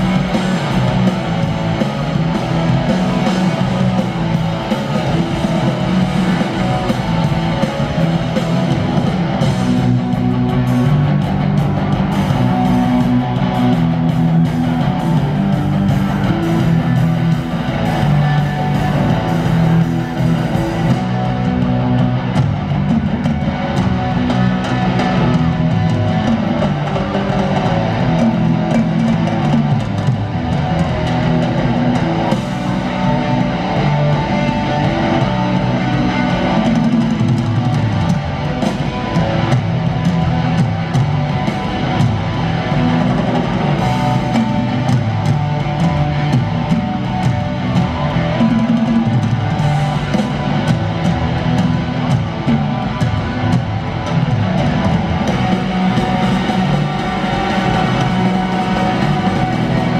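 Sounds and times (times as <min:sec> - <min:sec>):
distorted electric guitars: 0:00.0 - 0:59.9
drum kit: 0:00.0 - 0:59.9.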